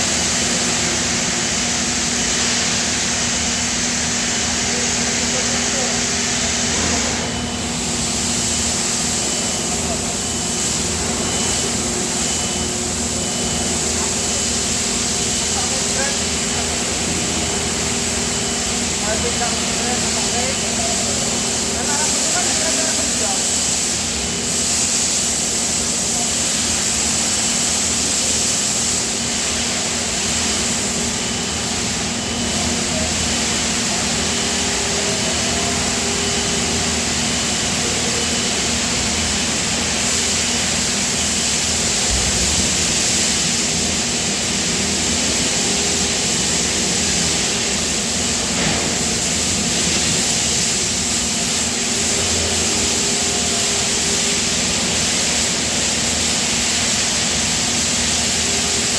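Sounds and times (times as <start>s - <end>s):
industrial machinery hum: 0.0s - 58.9s.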